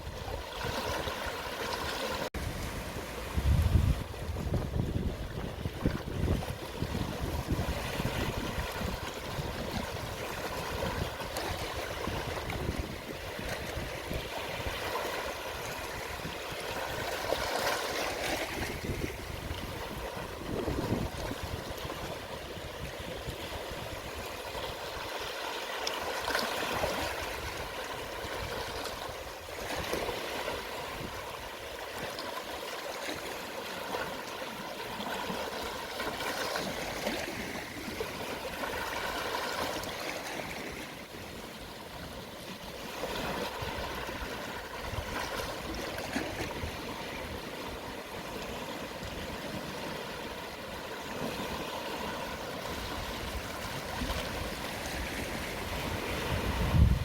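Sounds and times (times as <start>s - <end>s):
sea waves washing over shore: 0.0s - 57.0s.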